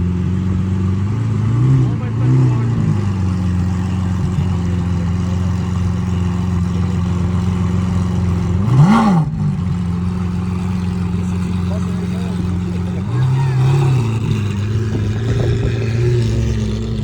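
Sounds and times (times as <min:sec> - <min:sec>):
car engine running: 0:00.0 - 0:17.0
engine revving: 0:00.0 - 0:17.0.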